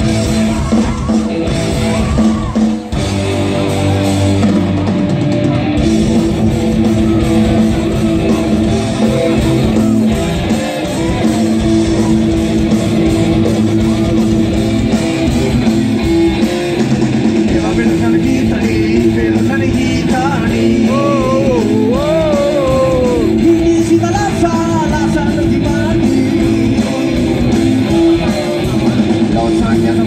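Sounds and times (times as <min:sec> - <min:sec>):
rock band playing live: 0:00.0 - 0:30.0.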